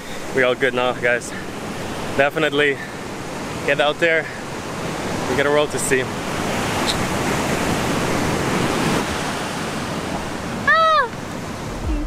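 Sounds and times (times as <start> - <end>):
ocean surf on sand: 0.0 - 12.0.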